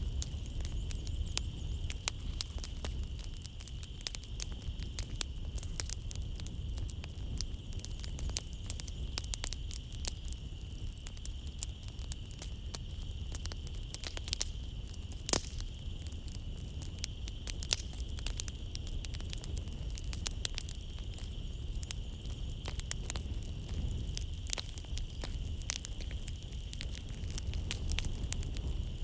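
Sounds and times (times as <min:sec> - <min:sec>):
night insects: 0:00.0 - 0:29.0
wood fire crackling: 0:00.0 - 0:29.0.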